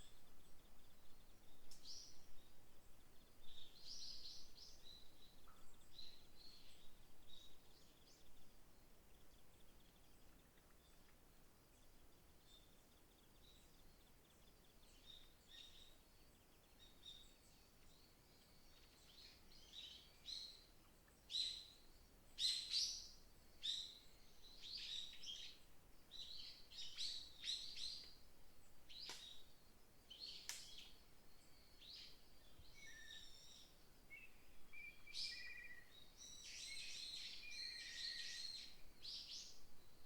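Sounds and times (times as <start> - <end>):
faint outdoor hiss: 0.0 - 40.0
small birds chirping and singing: 0.0 - 40.0.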